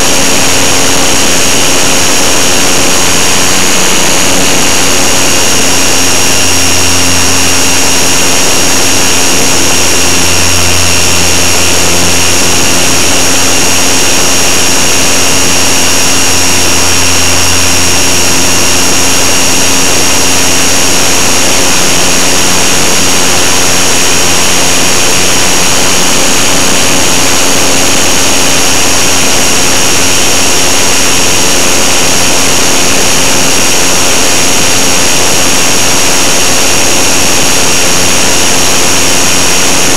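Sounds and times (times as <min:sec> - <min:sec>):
electric motor propeller whine: 0:00.0 - 0:39.9.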